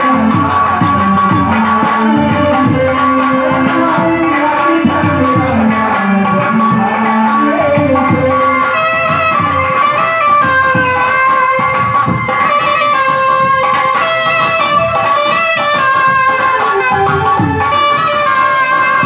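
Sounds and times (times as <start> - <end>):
live band instrumental music: 0.0 - 19.0.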